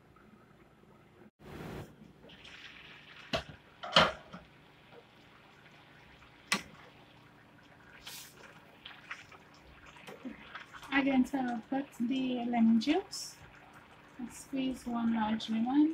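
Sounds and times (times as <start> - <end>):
jam bubbling softly: 2.1 - 15.9.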